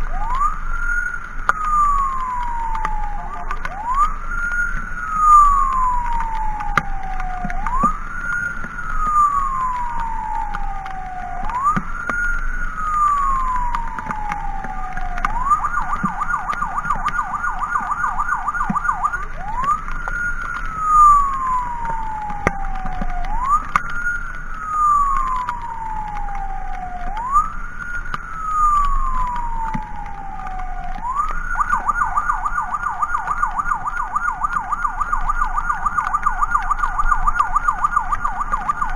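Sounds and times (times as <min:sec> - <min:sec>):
electronic siren wailing and yelping: 0:00.0 - 0:38.9.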